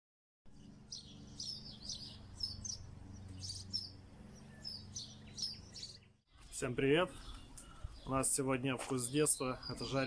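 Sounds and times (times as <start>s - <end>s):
songbirds chirping: 0.5s - 10.0s.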